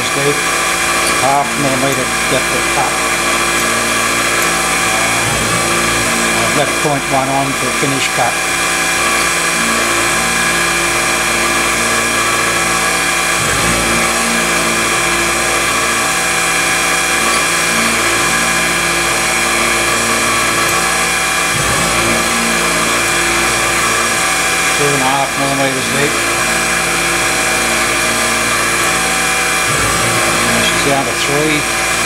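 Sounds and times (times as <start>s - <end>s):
metal cutting noise: 0.0s - 32.0s
milling machine whine: 0.0s - 32.0s.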